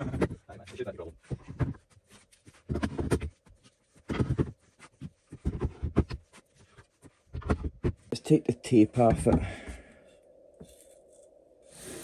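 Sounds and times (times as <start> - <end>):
knocks and scraping of tools: 0.0 - 8.2, 9.0 - 11.4.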